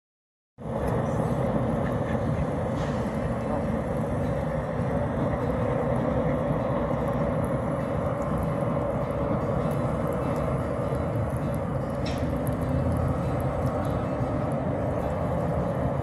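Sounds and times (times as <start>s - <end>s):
low outdoor rumble: 0.6s - 16.0s.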